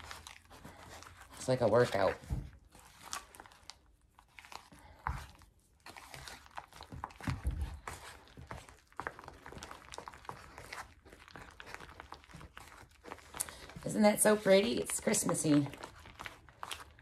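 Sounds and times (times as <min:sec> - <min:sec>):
spackling stirred in a bowl: 0:00.0 - 0:17.0.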